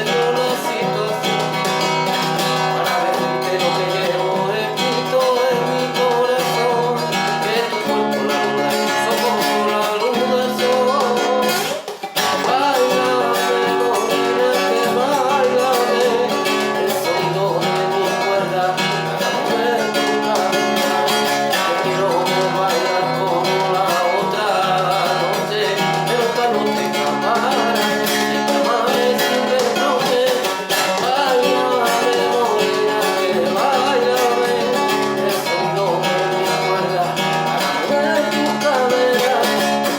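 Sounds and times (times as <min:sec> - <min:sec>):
acoustic guitar music: 0:00.0 - 0:39.9.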